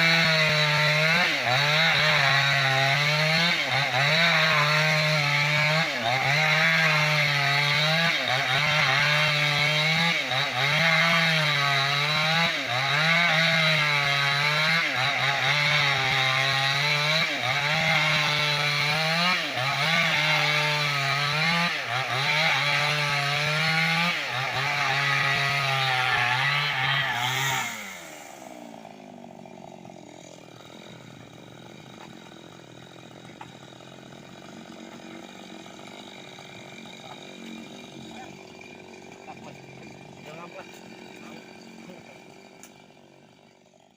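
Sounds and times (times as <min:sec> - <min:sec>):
chainsaw cutting log: 0:00.0 - 0:43.9
chainsaw idling: 0:00.0 - 0:43.9.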